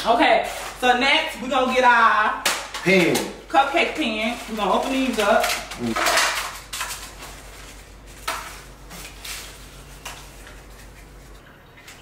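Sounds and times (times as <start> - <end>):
foil liners clicking and rustling: 0.0 - 12.0.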